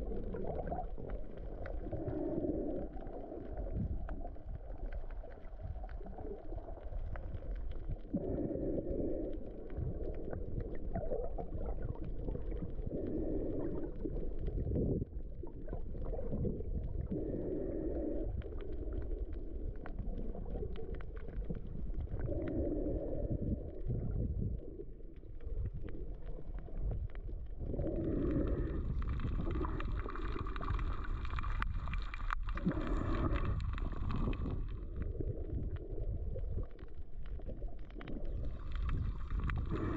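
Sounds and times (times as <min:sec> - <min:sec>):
underwater rush of moving water: 0:00.0 - 0:39.9.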